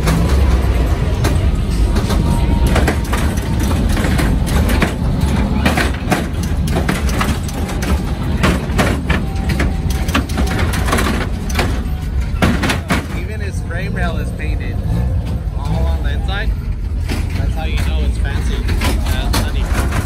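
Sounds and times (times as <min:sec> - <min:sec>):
scattered clicks and knocks: 0:00.0 - 0:20.0
truck engine rumbling: 0:00.0 - 0:20.0.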